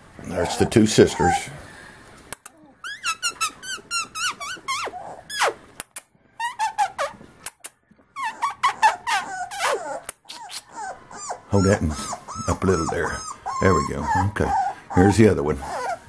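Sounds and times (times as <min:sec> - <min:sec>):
puppy whining: 0:00.2 - 0:01.8, 0:02.5 - 0:05.6, 0:06.4 - 0:07.3, 0:08.1 - 0:16.0.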